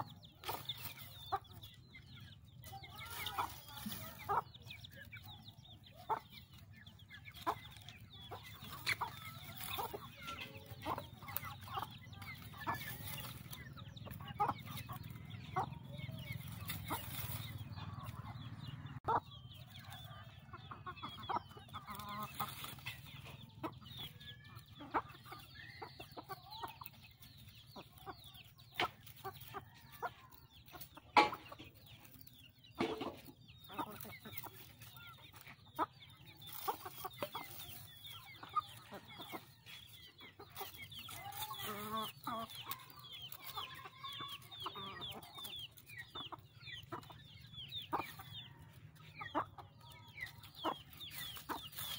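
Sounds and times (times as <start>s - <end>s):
chickens clucking and calling: 0.0s - 51.9s.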